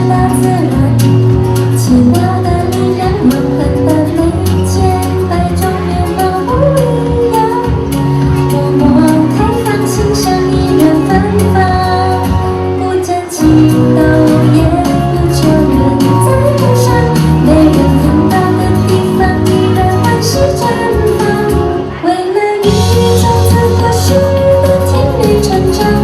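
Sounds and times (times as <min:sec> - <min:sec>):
pop song with steady beat: 0:00.0 - 0:26.0.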